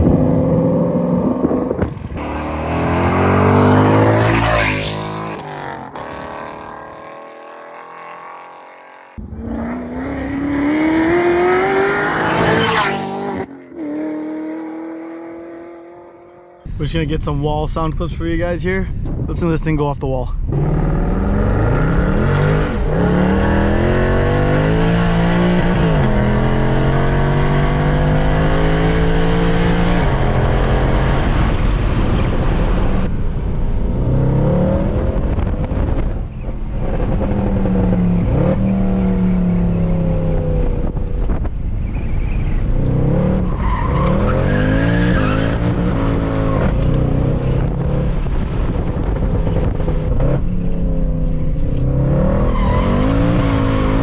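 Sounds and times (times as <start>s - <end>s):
car exhaust revving: 0.0s - 16.0s, 20.5s - 54.0s.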